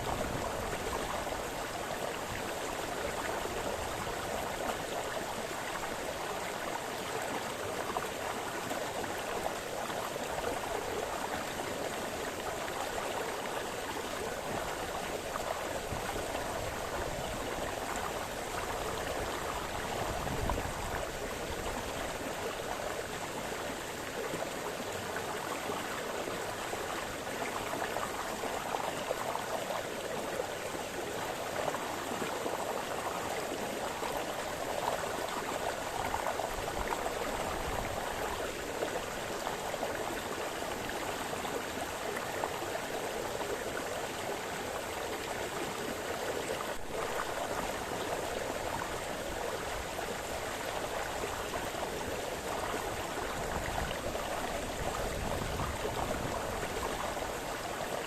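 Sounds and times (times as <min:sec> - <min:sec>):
brook babbling over stones: 0:00.0 - 0:58.0.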